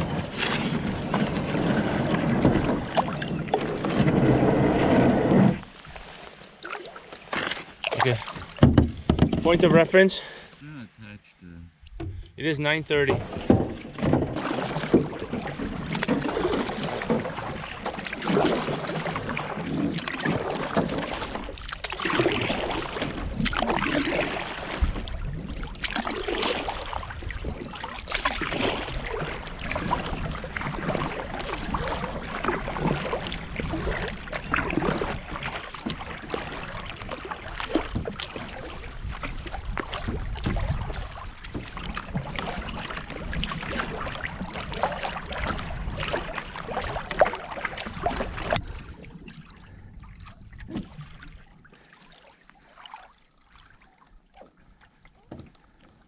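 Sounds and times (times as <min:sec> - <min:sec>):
paddle strokes splashing water: 0:00.0 - 0:10.7, 0:11.9 - 0:56.0
water swishing along canoe: 0:00.0 - 0:56.0.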